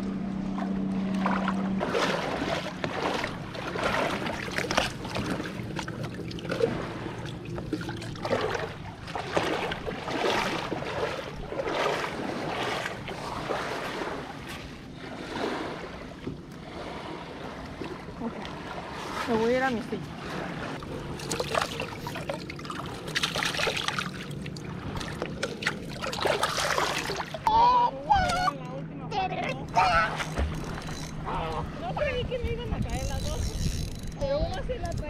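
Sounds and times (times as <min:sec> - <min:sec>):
steady low hum: 0:00.0 - 0:35.0
water splashing and sloshing: 0:00.0 - 0:35.0.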